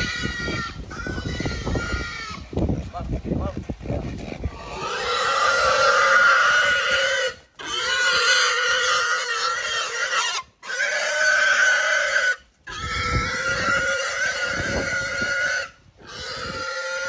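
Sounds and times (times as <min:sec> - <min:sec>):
farm animals crying: 0:00.0 - 0:02.5, 0:04.2 - 0:17.0.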